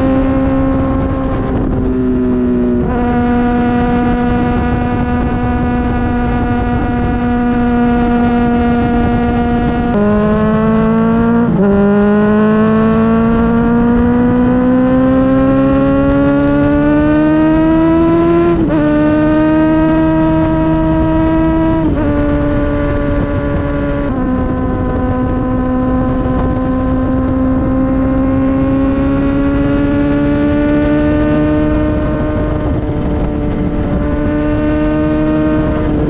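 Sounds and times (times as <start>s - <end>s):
motorcycle engine at high revs: 0.0s - 36.0s
wind rushing: 0.0s - 36.0s.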